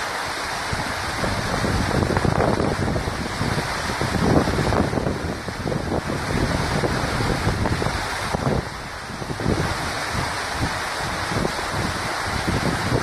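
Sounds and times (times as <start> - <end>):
waterfall rushing: 0.0 - 13.0
wind buffeting microphone: 0.6 - 13.0.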